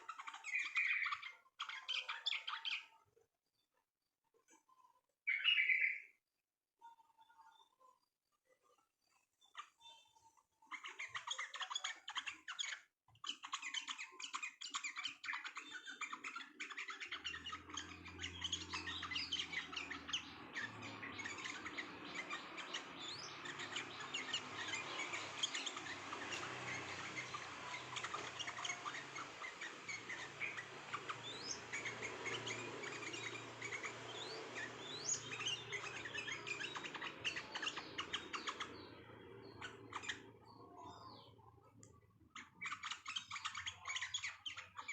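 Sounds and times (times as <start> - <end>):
songbirds chirping and twittering: 0.0 - 3.6, 5.3 - 6.2, 6.8 - 44.9.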